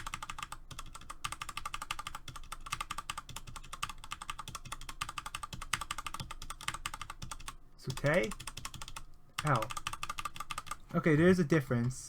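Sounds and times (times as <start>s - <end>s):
mechanical keyboard typing: 0.0s - 10.8s.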